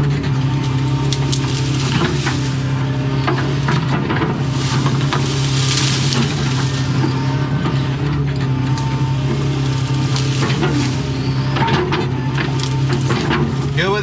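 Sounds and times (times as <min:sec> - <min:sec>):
excavator diesel engine running: 0:00.0 - 0:14.0
tree branches cracking and snapping: 0:00.0 - 0:14.0.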